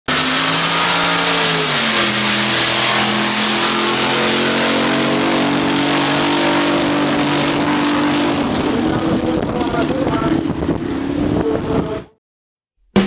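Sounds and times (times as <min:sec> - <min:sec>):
racing engine at full throttle: 0:00.1 - 0:12.2.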